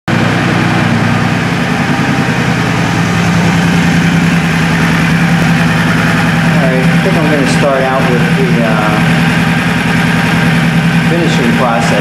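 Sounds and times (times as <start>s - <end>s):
motorcycle engine idling: 0.1s - 12.0s.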